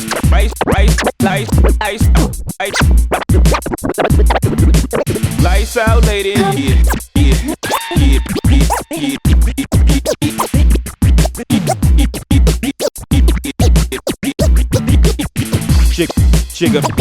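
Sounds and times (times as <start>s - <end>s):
record scratching: 0.0s - 5.6s, 6.4s - 17.0s
hip-hop beat: 0.0s - 17.0s
bass-heavy kick drum: 0.2s - 8.7s, 9.3s - 10.0s, 10.6s - 17.0s.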